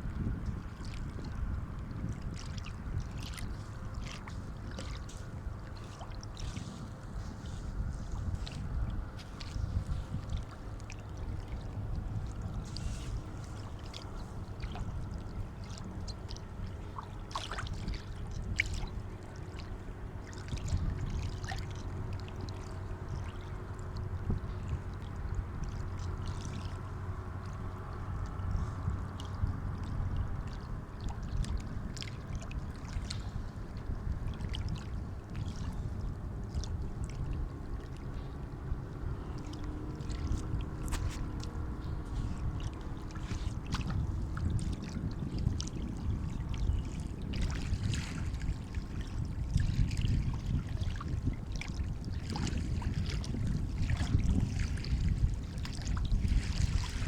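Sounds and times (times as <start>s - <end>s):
sea water lapping: 0.0s - 57.0s
small water splashes: 0.0s - 57.0s.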